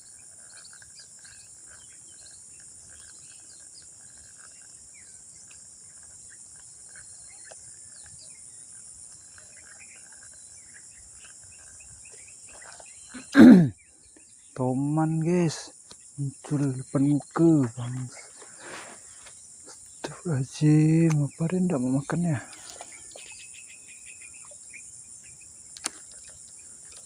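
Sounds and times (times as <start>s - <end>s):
faint chirps: 0.0s - 27.0s
insect trilling: 0.0s - 27.0s.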